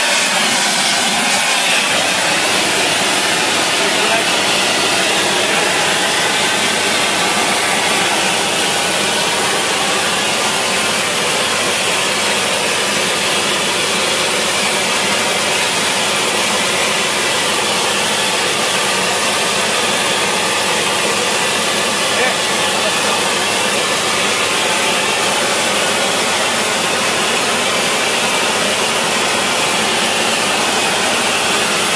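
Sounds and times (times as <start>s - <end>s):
gas torch hissing: 0.0s - 31.9s.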